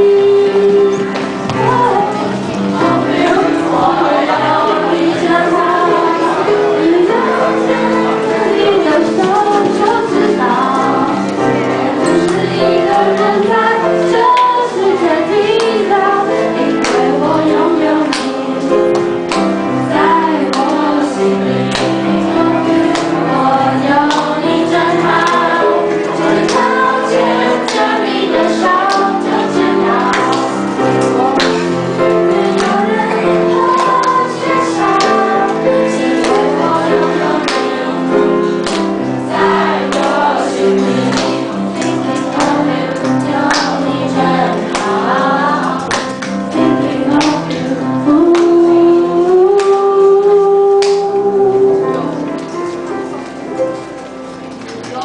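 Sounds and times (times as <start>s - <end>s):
choir singing in unison: 0.0s - 52.3s.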